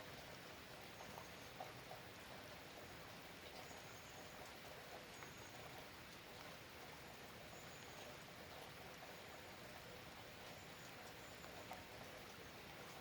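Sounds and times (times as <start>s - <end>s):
faint steady rain: 0.0s - 13.0s
soft drip ticks: 0.0s - 13.0s.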